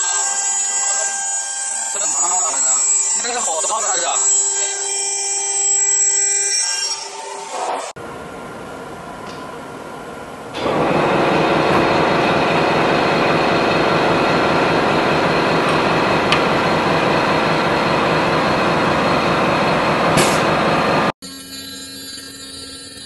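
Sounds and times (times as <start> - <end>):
wood router machine noise: 0.0 - 8.0, 10.5 - 21.2
machine whining tones: 0.0 - 23.0.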